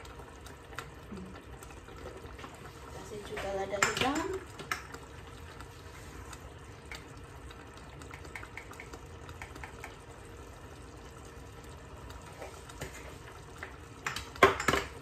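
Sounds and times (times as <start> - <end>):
faint steady hum: 0.0 - 15.0
meat sizzling in a saucepan: 0.0 - 15.0.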